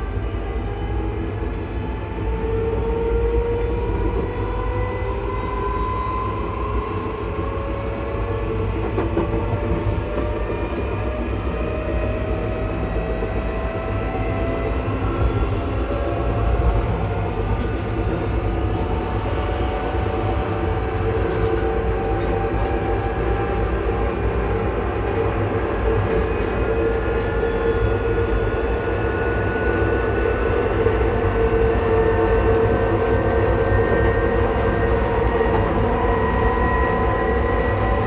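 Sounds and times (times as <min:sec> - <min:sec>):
wheels rumbling on rails: 0:03.3 - 0:38.0.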